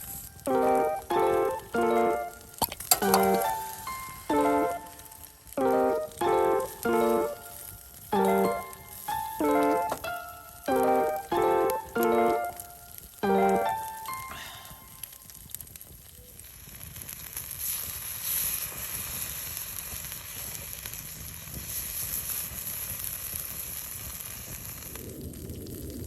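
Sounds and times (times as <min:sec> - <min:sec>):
food sizzling on a grill: 0:00.0 - 0:26.0.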